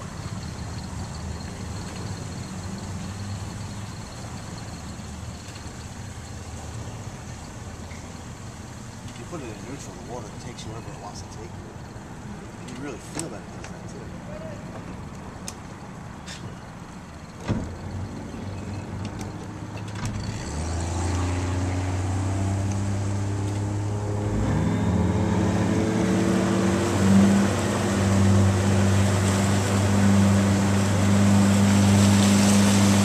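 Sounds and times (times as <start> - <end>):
motorboat engine: 0.0 - 15.9, 16.6 - 33.0
water rushing along hull: 0.0 - 33.0.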